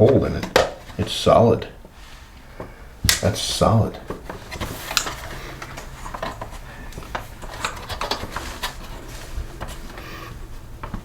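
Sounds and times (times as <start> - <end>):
hand tool scraping plastic: 1.8 - 11.0.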